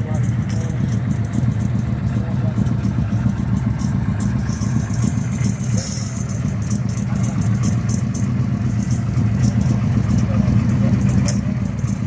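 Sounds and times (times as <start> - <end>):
car engine idling: 0.0 - 12.0
sharp ticks and clicks: 0.0 - 12.0.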